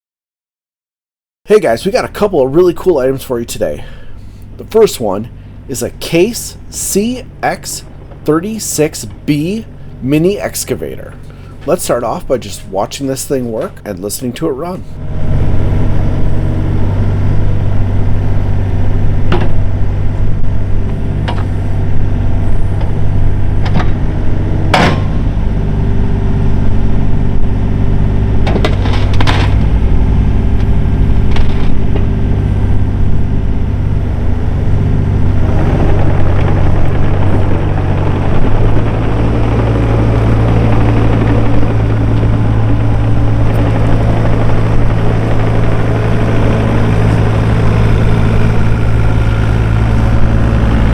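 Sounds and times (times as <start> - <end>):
diesel excavator engine running: 1.5 - 50.9.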